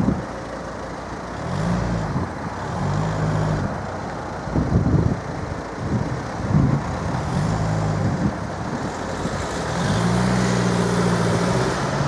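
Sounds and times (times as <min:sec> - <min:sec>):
car engine humming: 0:00.0 - 0:12.0
low rumbling outdoor noise: 0:00.0 - 0:12.0.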